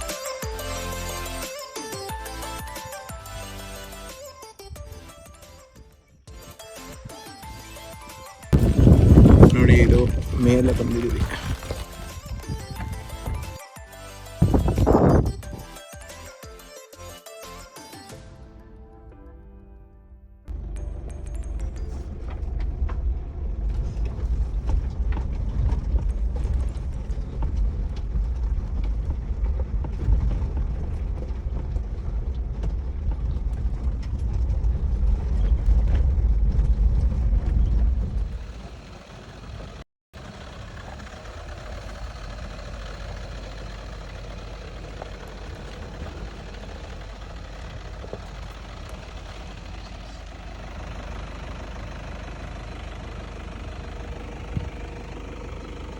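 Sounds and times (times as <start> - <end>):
quieter steady engine: 0.0 - 5.4, 6.3 - 15.8, 20.5 - 55.9
off-road vehicle engine rumbling: 0.0 - 16.4, 20.5 - 55.9.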